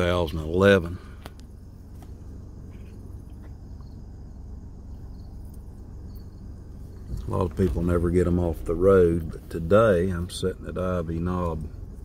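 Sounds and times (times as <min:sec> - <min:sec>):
crickets chirping: 0:00.0 - 0:12.0
steady low hum: 0:00.0 - 0:12.0.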